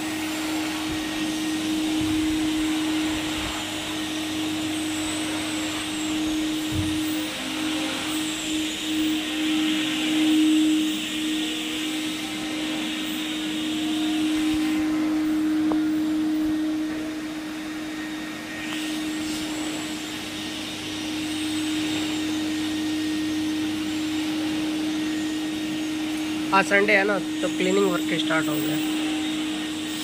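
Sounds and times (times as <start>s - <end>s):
motor hum: 0.0s - 30.0s
vacuum suction hiss: 0.0s - 30.0s.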